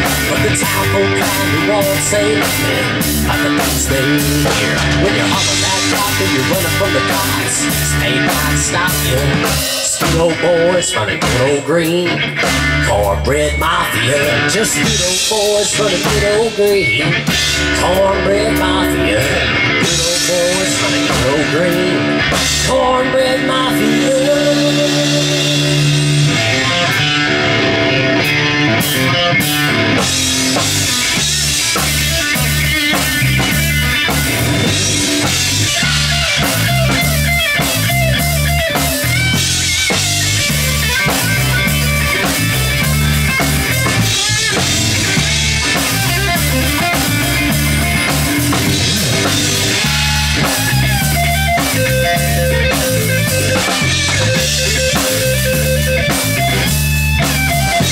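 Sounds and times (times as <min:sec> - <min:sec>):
bass guitar: 0:00.0 - 0:57.9
drum kit beat: 0:00.0 - 0:57.9
electric guitar: 0:00.0 - 0:57.9.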